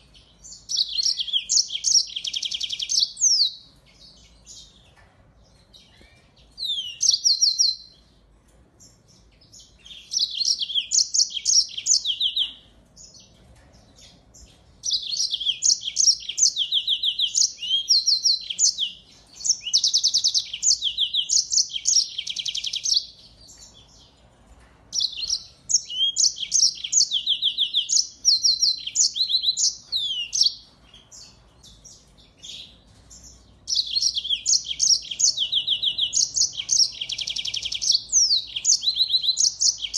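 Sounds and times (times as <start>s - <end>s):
finch trilling and chirping: 0.0s - 8.2s, 8.8s - 13.4s, 14.0s - 24.2s, 24.9s - 39.9s.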